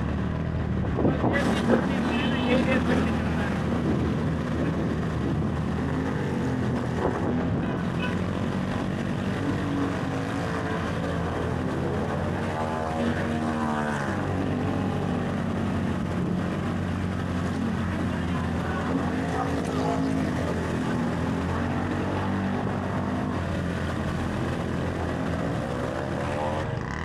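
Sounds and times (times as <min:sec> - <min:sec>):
water splashing around wheels: 0:00.0 - 0:27.0
small motorcycle engine running: 0:01.3 - 0:27.0.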